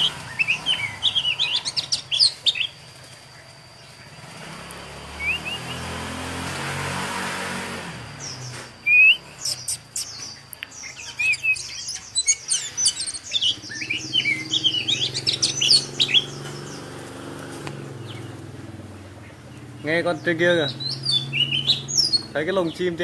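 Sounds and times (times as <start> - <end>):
bird twittering warble: 0.0 - 6.1, 8.0 - 23.0.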